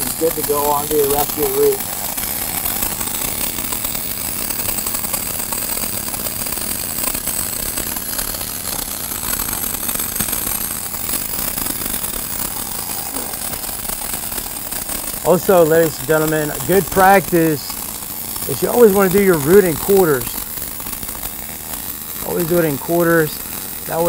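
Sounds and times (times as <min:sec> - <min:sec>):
arc welding crackle: 0:00.0 - 0:24.0.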